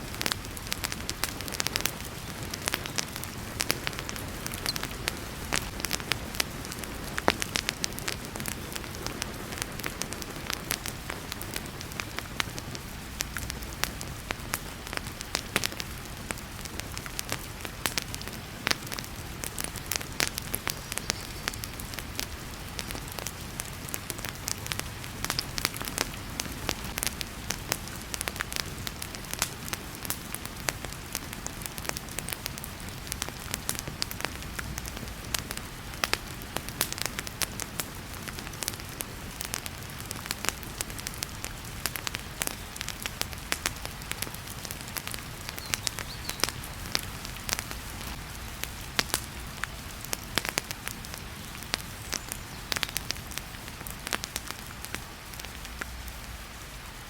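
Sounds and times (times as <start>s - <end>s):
fireplace crackling and popping: 0.0s - 57.0s
heavy rain hissing: 0.0s - 57.0s.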